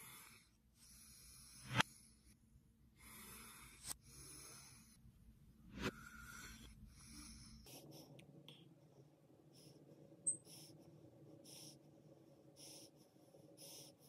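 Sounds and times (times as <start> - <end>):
person breathing: 0.0 - 8.4, 9.4 - 14.0.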